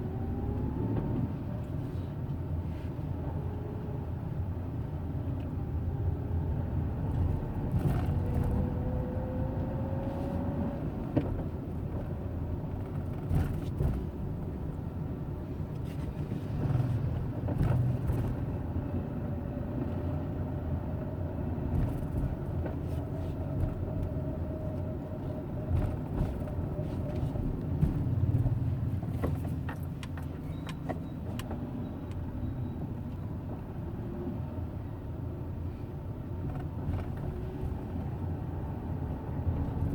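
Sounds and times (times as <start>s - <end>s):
car engine low rumble: 0.0s - 39.9s.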